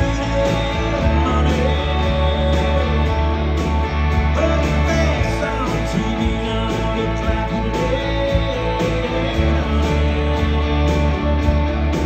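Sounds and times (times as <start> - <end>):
live country-rock band: 0.0 - 12.0.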